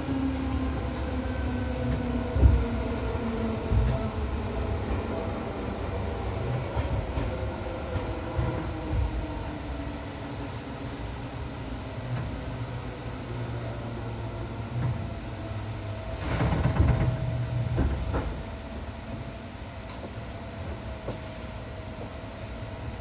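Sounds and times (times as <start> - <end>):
train equipment hum with whine: 0.0 - 23.0.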